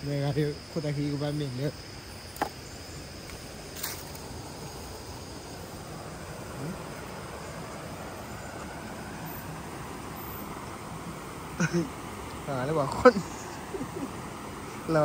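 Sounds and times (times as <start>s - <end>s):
high-pitched insect chirring: 0.0s - 15.0s
low outdoor hiss: 0.0s - 15.0s.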